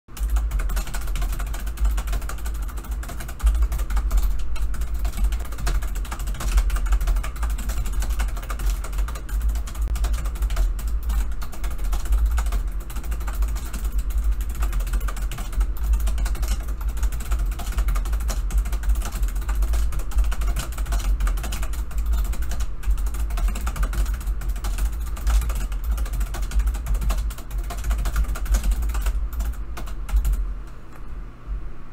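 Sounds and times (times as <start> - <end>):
fast keyboard typing: 0.1 - 30.4
steady low rumble: 0.2 - 30.7.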